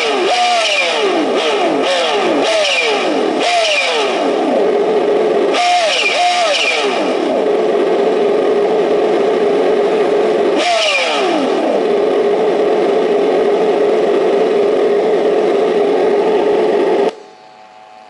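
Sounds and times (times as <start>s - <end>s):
simulated car engine revving: 0.0s - 17.2s.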